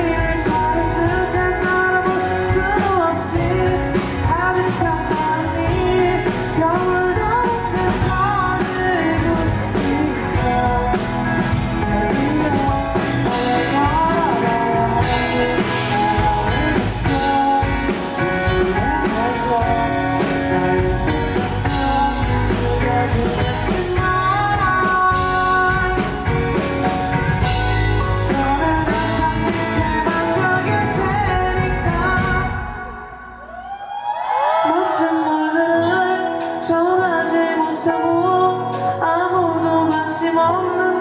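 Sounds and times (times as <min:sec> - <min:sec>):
live pop band playing: 0:00.0 - 0:41.0.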